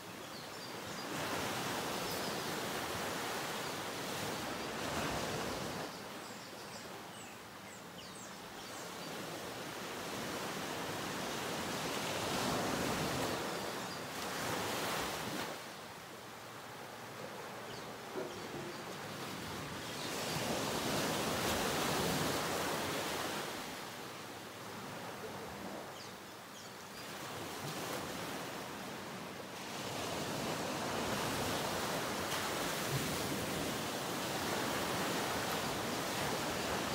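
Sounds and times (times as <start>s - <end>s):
small waves washing onto beach: 0.0s - 6.2s, 8.4s - 36.9s.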